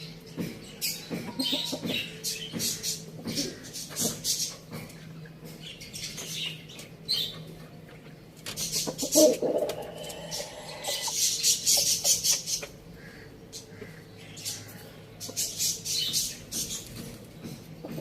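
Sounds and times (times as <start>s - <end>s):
chickens chirping: 0.0s - 18.0s.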